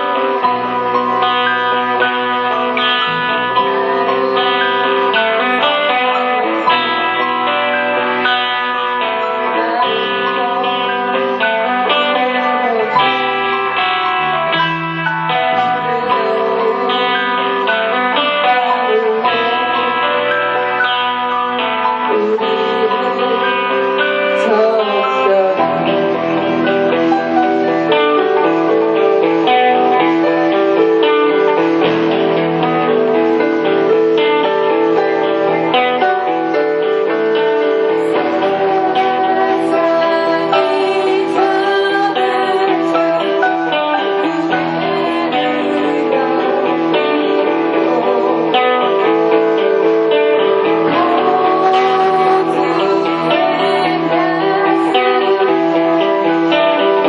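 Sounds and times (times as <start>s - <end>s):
keyboard playing chords: 0.0s - 57.0s
live instrumental music: 0.0s - 57.0s.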